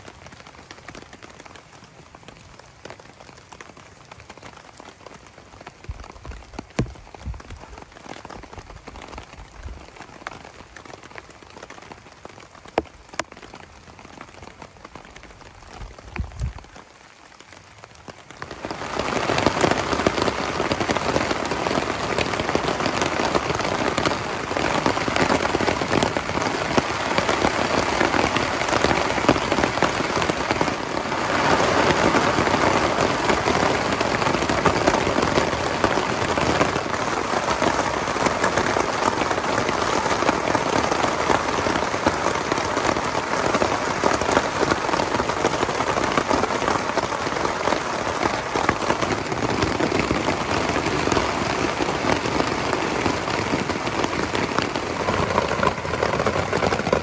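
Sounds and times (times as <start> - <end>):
heavy rain on a tarp: 0.0 - 57.0.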